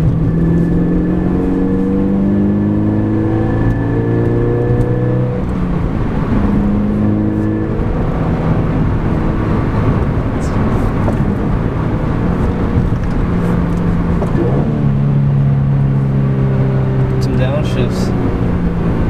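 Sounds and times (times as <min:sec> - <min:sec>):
car engine pulling under load: 0:00.0 - 0:19.0.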